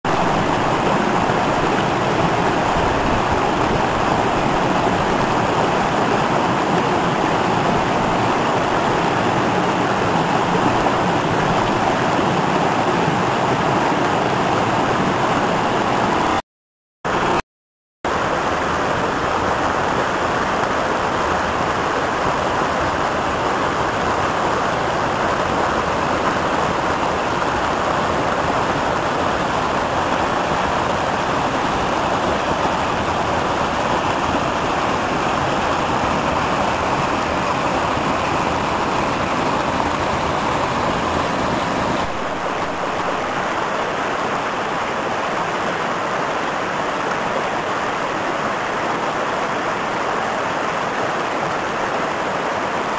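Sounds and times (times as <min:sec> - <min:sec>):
creek rushing over rocks: 0:00.1 - 0:16.4, 0:17.1 - 0:17.4, 0:18.1 - 0:52.9.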